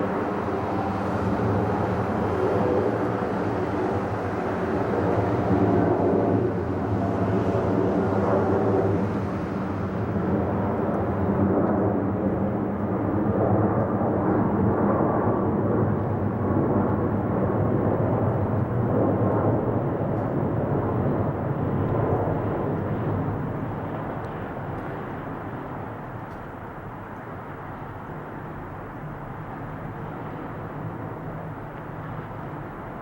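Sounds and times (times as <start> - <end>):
jet engine rumble: 0.0 - 33.0.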